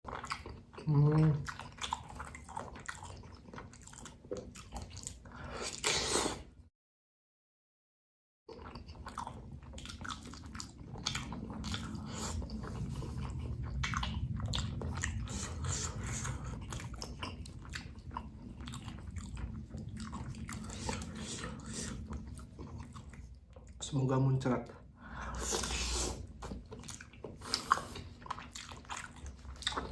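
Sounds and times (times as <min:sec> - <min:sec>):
wet biting and chewing: 0:00.0 - 0:06.4, 0:08.5 - 0:23.8, 0:25.4 - 0:29.9.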